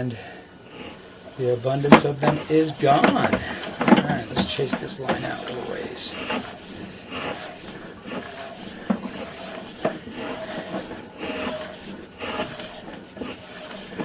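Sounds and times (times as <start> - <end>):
cable scraping in drain: 0.6 - 14.0.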